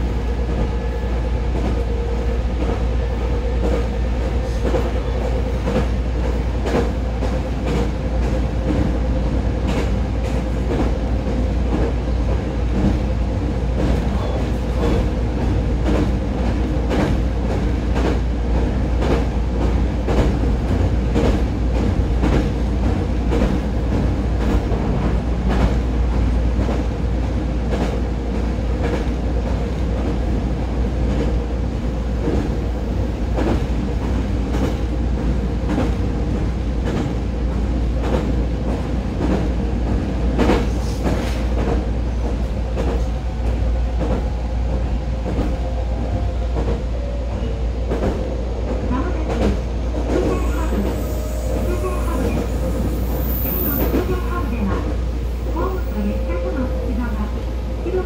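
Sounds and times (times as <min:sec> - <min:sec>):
train rumble and hum: 0:00.0 - 0:58.0.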